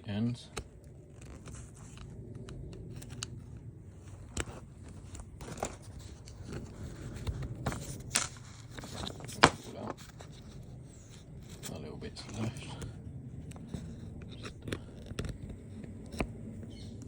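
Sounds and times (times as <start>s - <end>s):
small clicks and knocks: 0.5s - 17.0s.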